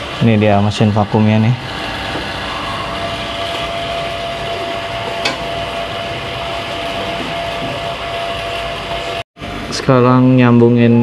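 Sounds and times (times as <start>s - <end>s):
vacuum pump motor hum: 0.0s - 9.9s.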